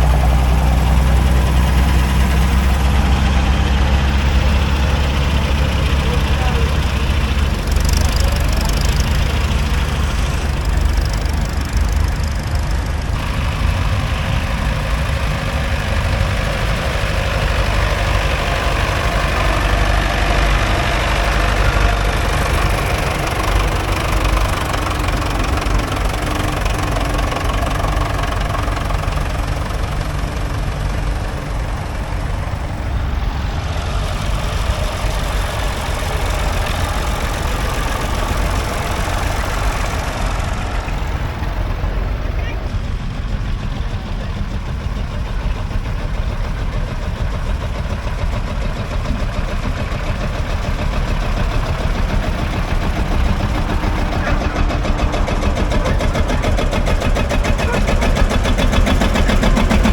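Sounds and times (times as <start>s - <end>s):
tractor engines running: 0.0s - 59.9s.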